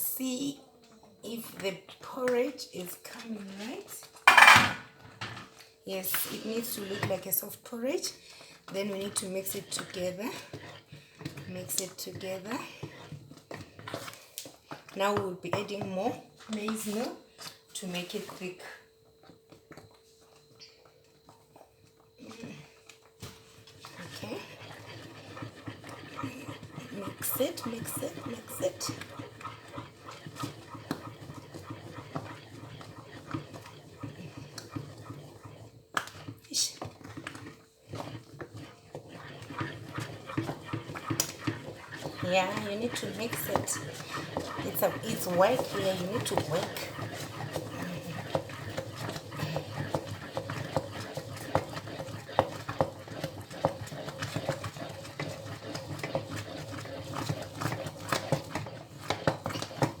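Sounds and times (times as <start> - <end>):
wooden spoon scraping a pot: 1.3 - 60.0.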